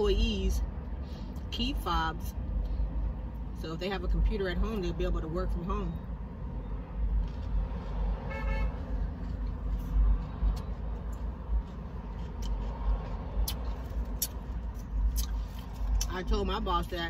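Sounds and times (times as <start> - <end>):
car rumble: 0.0 - 17.0.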